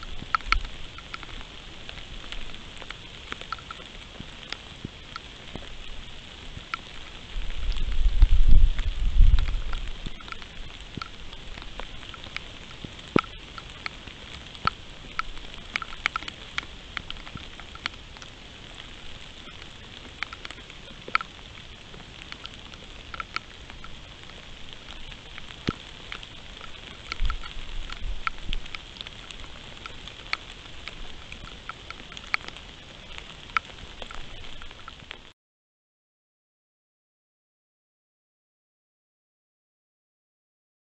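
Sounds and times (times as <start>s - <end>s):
sharp raindrop ticks: 0.0s - 35.3s
steady rain: 0.0s - 35.4s.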